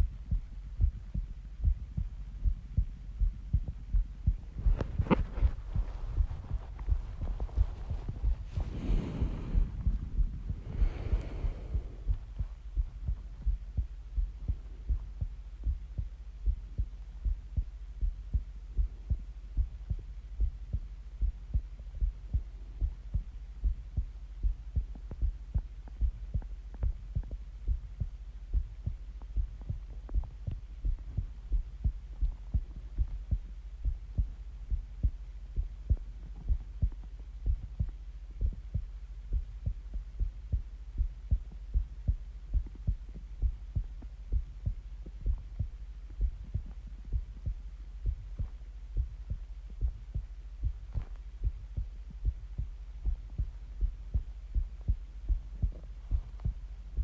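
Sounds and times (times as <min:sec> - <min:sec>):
continuous low hum: 0:00.0 - 0:57.0
heartbeat thumps: 0:00.0 - 0:57.0.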